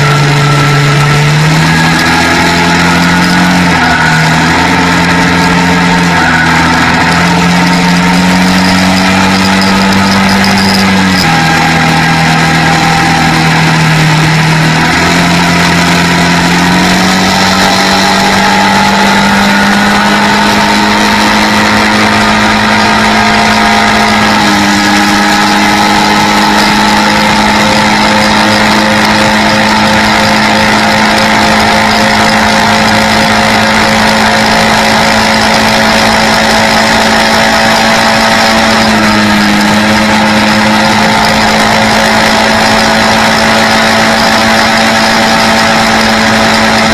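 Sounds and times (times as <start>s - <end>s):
quad bike engine running: 0.0s - 46.9s.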